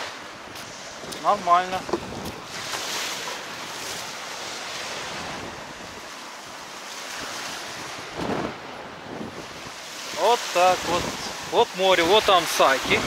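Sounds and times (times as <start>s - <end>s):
waves breaking on pebble shore: 0.0s - 13.0s
wind buffeting microphone: 0.0s - 13.0s.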